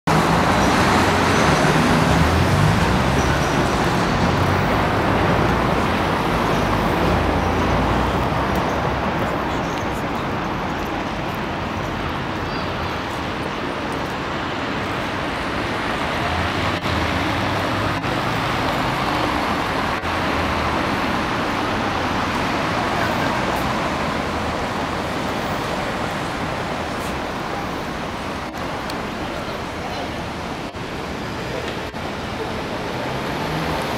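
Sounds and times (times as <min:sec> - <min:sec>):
cars passing: 0:00.1 - 0:33.9
low traffic rumble: 0:00.1 - 0:33.9.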